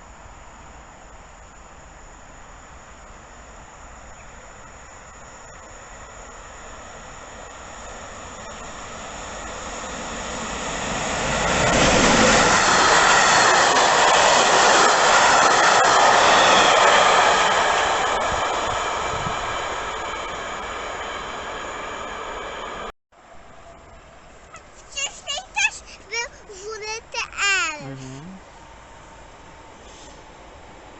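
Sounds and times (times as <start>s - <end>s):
train passing on tracks: 0.0s - 30.9s.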